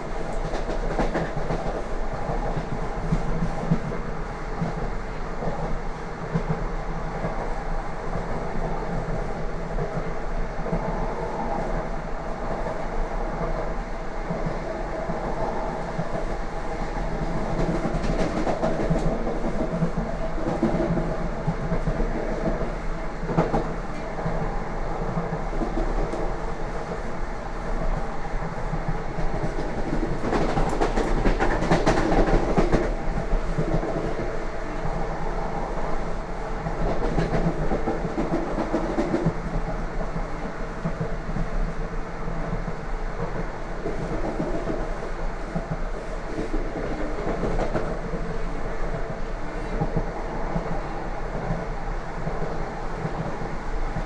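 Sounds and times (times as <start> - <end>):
train wheels clacking over rails: 0.0 - 7.6, 14.3 - 54.0
train rattling: 0.0 - 54.0.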